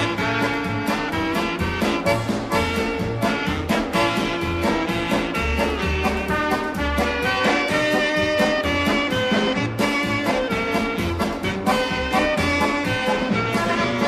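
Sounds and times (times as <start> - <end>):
swing music with bass line: 0.0 - 14.0.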